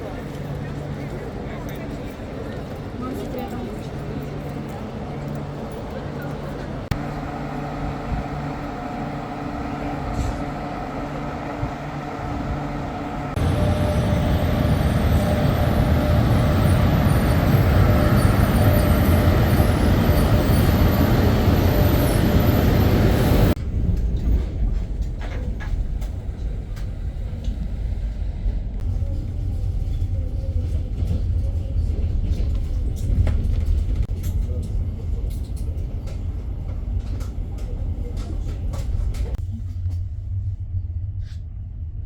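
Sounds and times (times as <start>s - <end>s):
passenger train rumbling: 0.0s - 42.0s.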